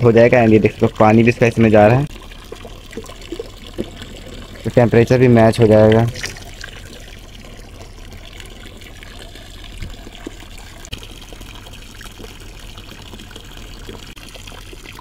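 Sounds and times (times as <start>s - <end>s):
water pouring into a basin: 0.0s - 15.0s.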